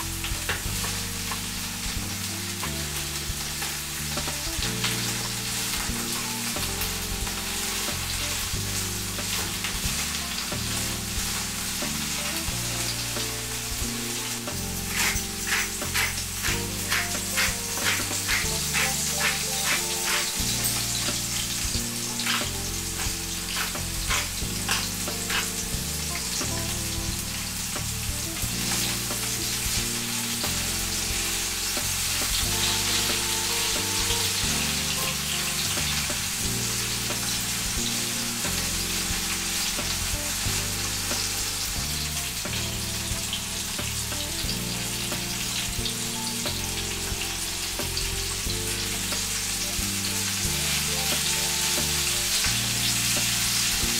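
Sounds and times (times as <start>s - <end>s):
vegetables sizzling in oil: 0.0s - 53.9s.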